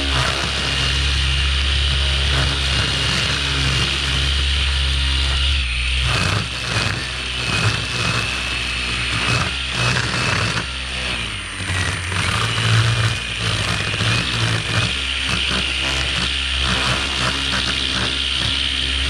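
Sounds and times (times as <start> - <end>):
string trimmer cutting grass: 0.0 - 19.0.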